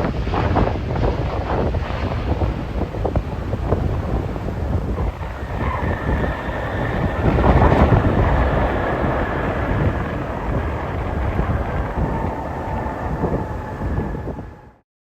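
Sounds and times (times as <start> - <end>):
jet engines whining: 0.0 - 14.8
wind buffeting microphone: 0.0 - 14.8.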